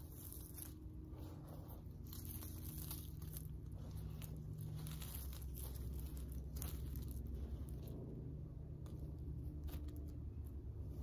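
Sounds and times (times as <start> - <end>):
low steady hum: 0.0 - 11.0
rustling and crinkling of lint: 0.0 - 11.0.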